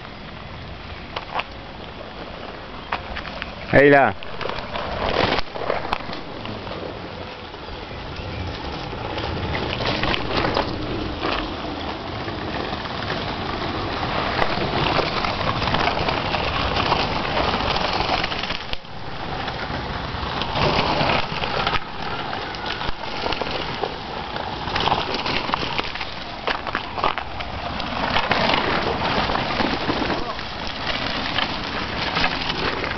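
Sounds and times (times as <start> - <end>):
bicycle rattling over cobblestones: 0.0 - 32.9.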